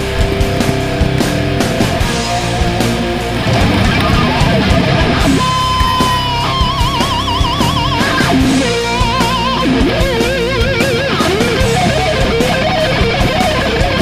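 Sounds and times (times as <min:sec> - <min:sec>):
electric guitar with vibrato: 0:00.0 - 0:14.0
steady drum beat: 0:00.0 - 0:14.0.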